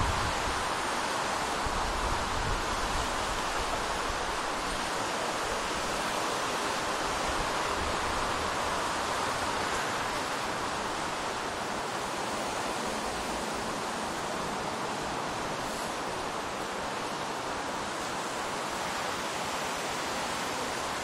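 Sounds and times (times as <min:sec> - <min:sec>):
distant road traffic: 0:00.0 - 0:21.0
wind: 0:00.0 - 0:21.0.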